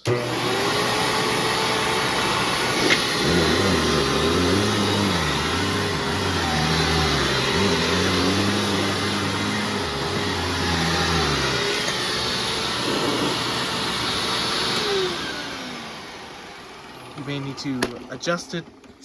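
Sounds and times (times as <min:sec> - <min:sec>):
upright vacuum running: 0:00.0 - 0:19.0.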